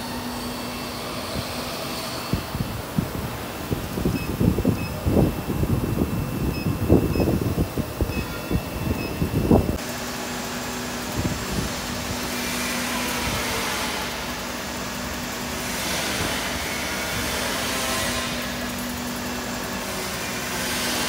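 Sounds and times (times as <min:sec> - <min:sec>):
welding machine humming: 0:00.0 - 0:21.0.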